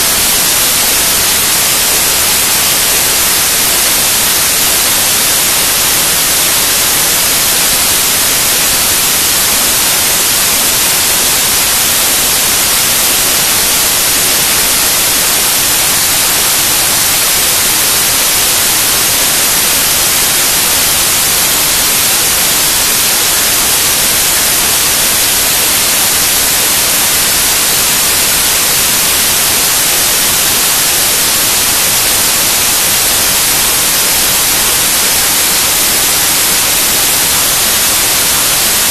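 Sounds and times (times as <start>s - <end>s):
digital static hiss: 0.0s - 38.9s.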